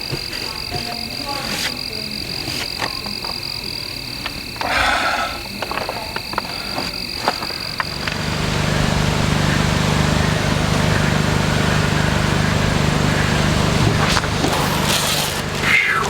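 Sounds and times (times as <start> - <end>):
saw cutting wood: 0.0 - 3.2, 5.9 - 16.0
sawmill engine humming: 0.0 - 16.0
thin high whine: 0.0 - 16.0.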